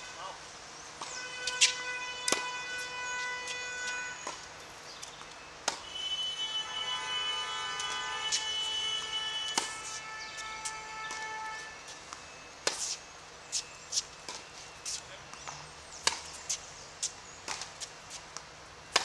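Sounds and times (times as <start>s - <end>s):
tennis balls struck by rackets: 0.9s - 6.0s, 7.8s - 19.0s.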